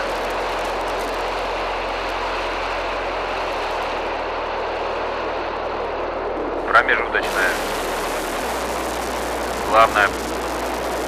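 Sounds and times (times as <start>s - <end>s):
rocket engine exhaust roar: 0.0s - 11.0s.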